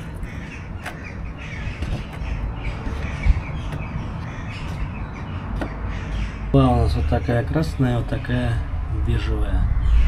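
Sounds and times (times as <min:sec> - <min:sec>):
birds calling: 0:00.0 - 0:10.0
low rumbling: 0:00.0 - 0:10.0.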